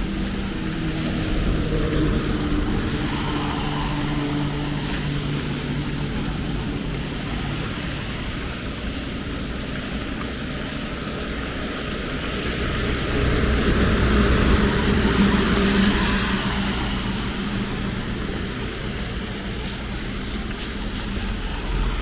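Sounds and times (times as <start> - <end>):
passing engine hum: 0.0 - 22.0
rain falling: 0.0 - 22.0.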